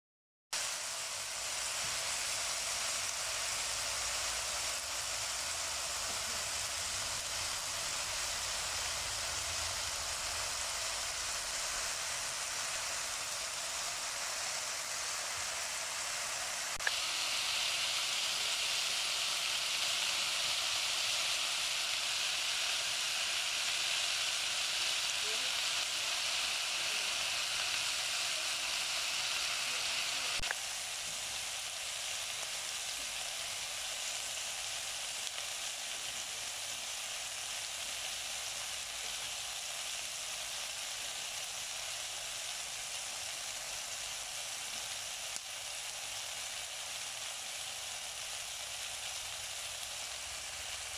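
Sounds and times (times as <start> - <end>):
meat sizzling in hot oil: 0.5 - 50.9.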